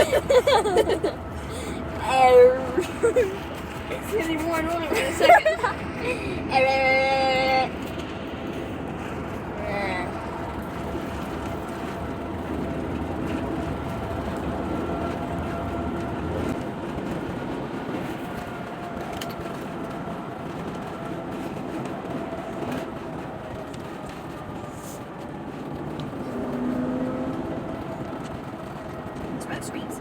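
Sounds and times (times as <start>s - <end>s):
car cabin road rumble: 0.0s - 30.0s.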